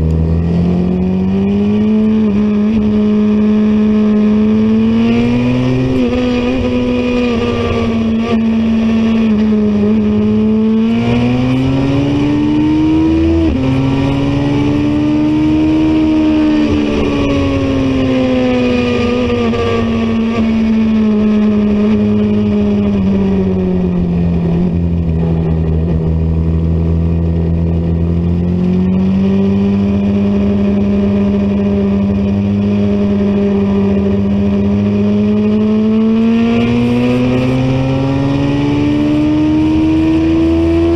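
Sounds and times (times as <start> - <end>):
racing motorcycle engine revving: 0.0 - 40.9.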